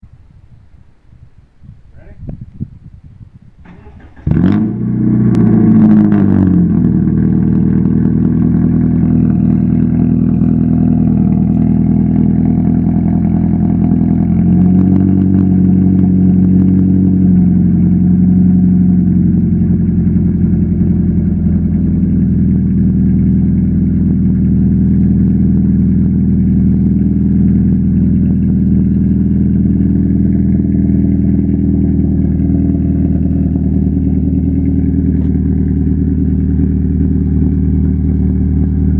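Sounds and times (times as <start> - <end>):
loud car engine idling: 3.6 - 38.9.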